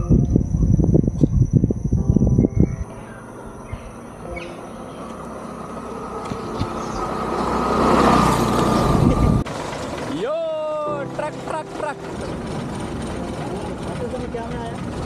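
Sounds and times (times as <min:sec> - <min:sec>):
motor vehicle approaching with whine: 0:00.0 - 0:15.0.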